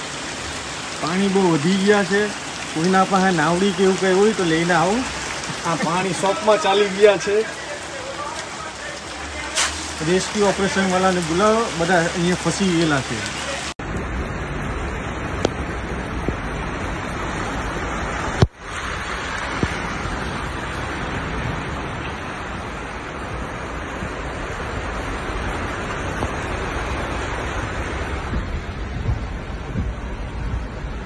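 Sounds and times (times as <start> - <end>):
floodwater rushing: 0.0 - 31.0
rain: 0.0 - 31.0.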